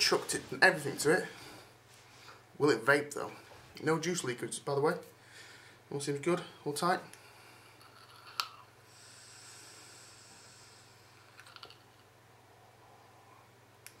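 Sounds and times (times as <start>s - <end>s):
faint high air hiss: 0.0s - 14.0s.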